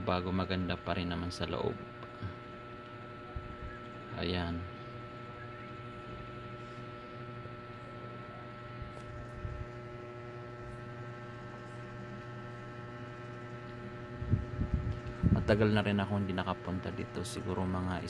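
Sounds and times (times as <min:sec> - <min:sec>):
steady indoor hum: 0:00.0 - 0:18.0.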